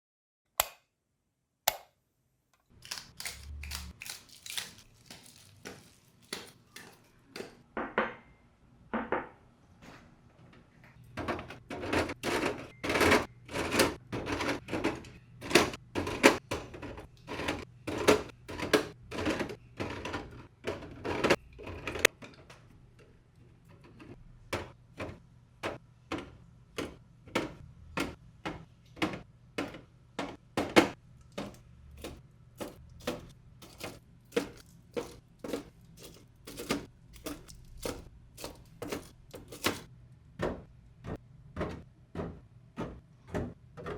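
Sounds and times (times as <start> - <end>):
items knocking and clicking: 2.6 - 8.3, 10.5 - 43.9.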